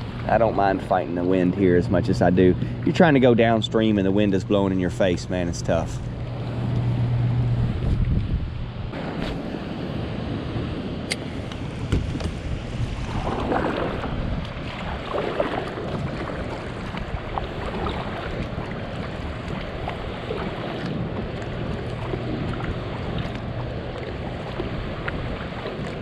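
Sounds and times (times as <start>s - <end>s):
gusty wind buffeting microphone: 0.0s - 26.0s
water sloshing against kayak: 0.0s - 26.0s.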